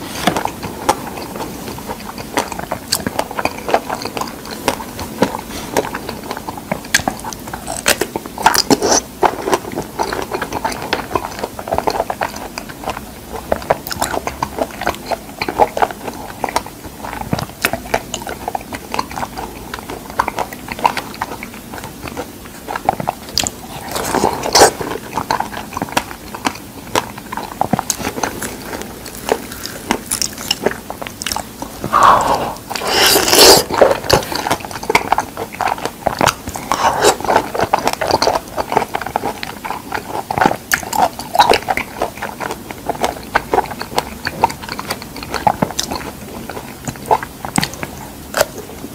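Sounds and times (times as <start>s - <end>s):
person chewing figs: 0.0s - 48.9s.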